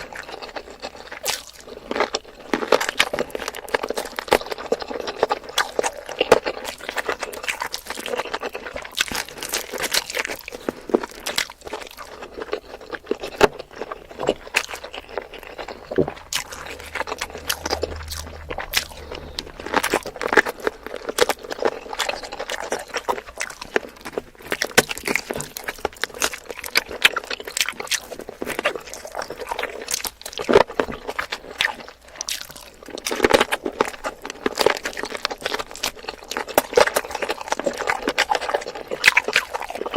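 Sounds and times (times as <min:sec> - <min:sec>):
close chewing with mouth smacks: 0:00.0 - 0:39.9.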